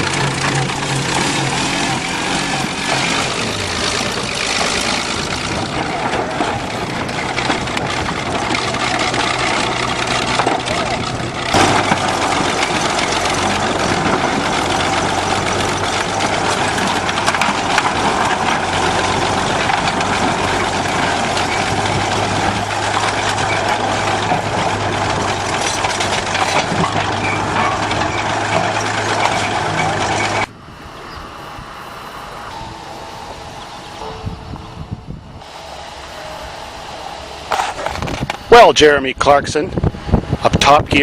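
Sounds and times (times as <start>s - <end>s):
bulldozer engine running: 0.0s - 41.0s.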